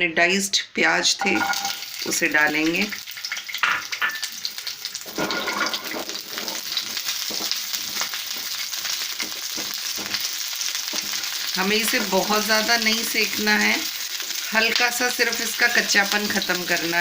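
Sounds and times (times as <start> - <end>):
onions sizzling in oil: 1.2 - 17.0.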